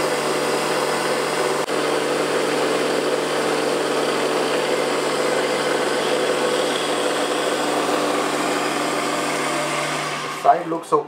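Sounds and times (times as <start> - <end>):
lathe motor humming: 0.0 - 10.8.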